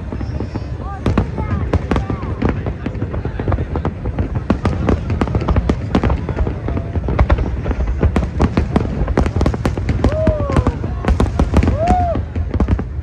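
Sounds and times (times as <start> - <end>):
fireworks cracks and bangs: 0.0 - 13.0
low rumble of shells bursting: 0.0 - 13.0.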